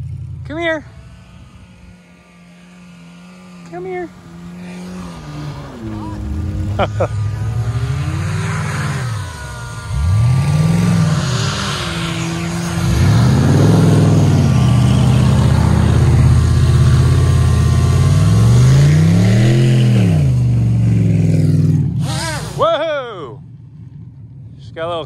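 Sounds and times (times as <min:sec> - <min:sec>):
drone propellers whining: 0:00.0 - 0:22.6
pickup truck engine revving: 0:00.0 - 0:22.9.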